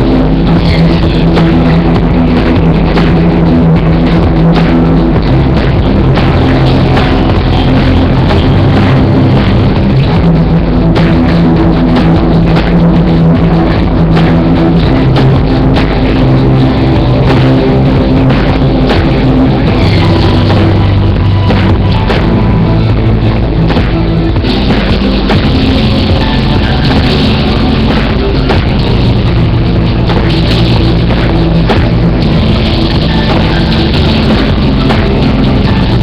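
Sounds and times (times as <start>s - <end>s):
bass notes: 0.0s - 36.0s
drum kit beating: 0.0s - 36.0s
loud rock music: 0.0s - 36.0s.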